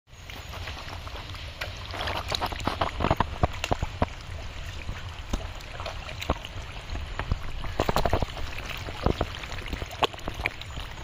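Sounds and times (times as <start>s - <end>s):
wet mud squelching and splattering: 0.2s - 11.0s.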